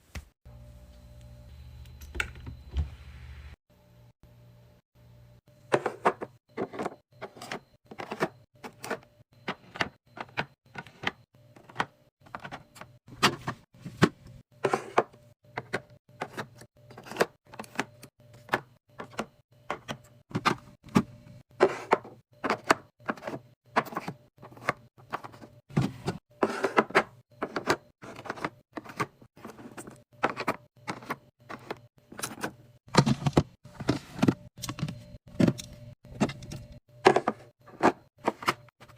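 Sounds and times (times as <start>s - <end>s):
food containers clicking and knocking: 5.7s - 38.9s.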